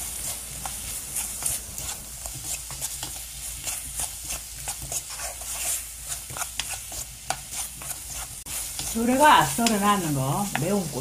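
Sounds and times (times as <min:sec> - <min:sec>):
sauce sizzling: 0:00.0 - 0:11.0
spatula scraping a wok: 0:00.0 - 0:11.0.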